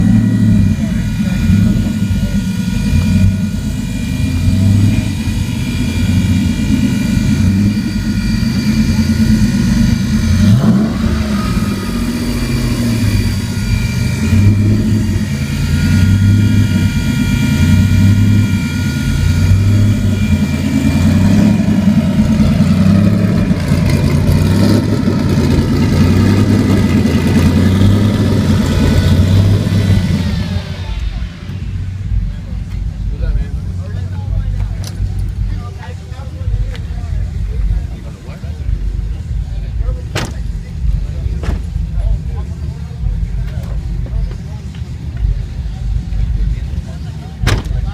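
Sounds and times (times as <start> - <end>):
car engine loping idle: 0.0 - 47.9.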